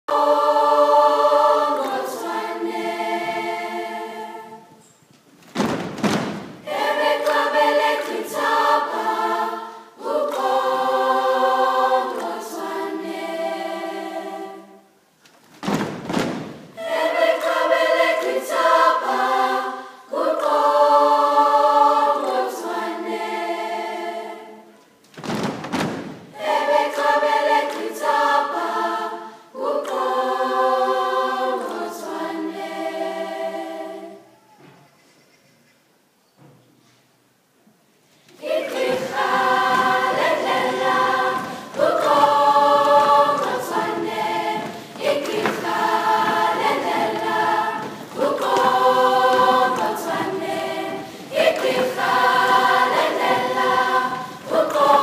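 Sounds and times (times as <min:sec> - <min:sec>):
choir singing sustained chords: 0:00.0 - 0:04.8, 0:06.6 - 0:15.0, 0:16.8 - 0:24.8, 0:26.3 - 0:34.4, 0:38.4 - 0:55.0.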